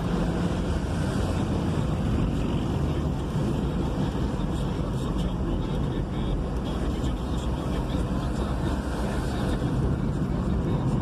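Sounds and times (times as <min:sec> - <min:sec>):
engine rumble: 0:00.0 - 0:11.0
road noise: 0:00.0 - 0:11.0.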